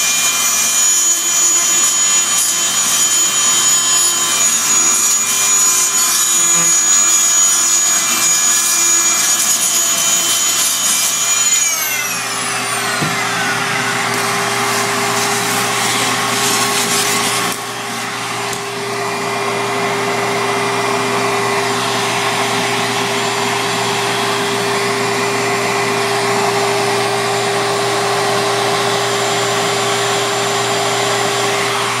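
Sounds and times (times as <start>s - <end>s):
oscillating tool whining: 0.0s - 32.0s
vacuum running: 0.0s - 32.0s
motor spinning down: 0.1s - 32.0s.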